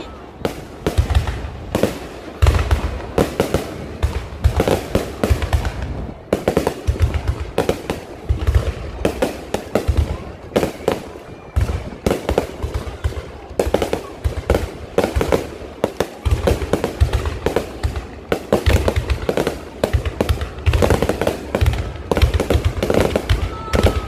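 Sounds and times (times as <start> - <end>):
deep fireworks booms: 0.0 - 24.0
fireworks bangs and crackles: 0.0 - 24.0.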